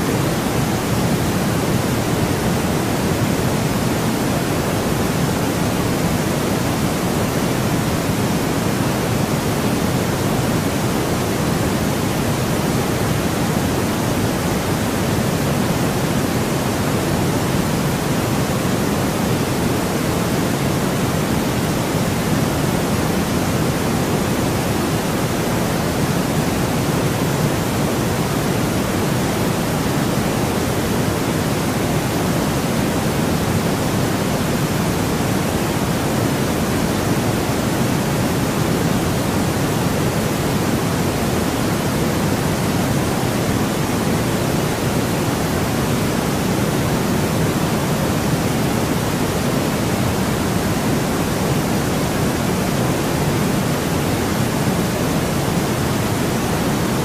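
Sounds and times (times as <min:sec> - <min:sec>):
steady synthetic noise hiss: 0:00.0 - 0:57.0.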